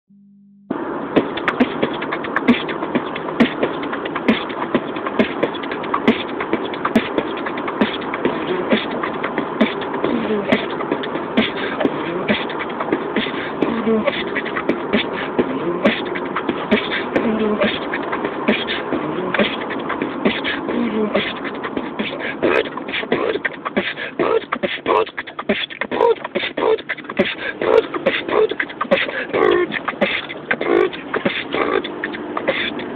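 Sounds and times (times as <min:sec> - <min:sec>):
man beatboxing: 0:01.0 - 0:32.9.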